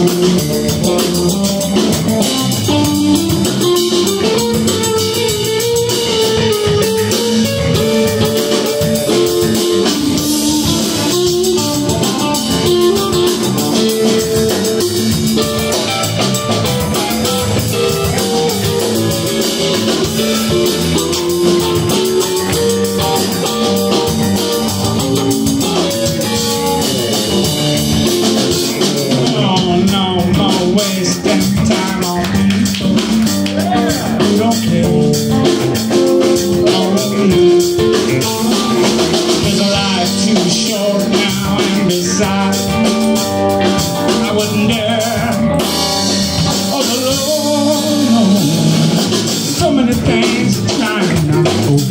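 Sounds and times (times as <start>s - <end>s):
electric bass: 0.0s - 51.9s
electric guitar melody: 0.0s - 51.9s
steady drum beat: 0.0s - 51.9s.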